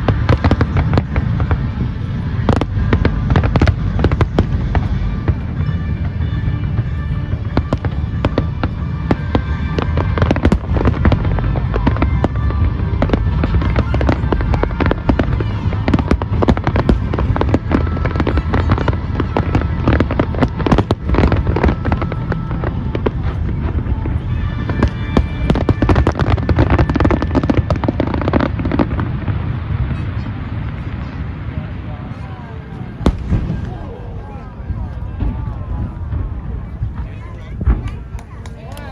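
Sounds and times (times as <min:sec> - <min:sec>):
music playing: 0:00.0 - 0:31.4
fireworks bangs and crackles: 0:00.0 - 0:38.9.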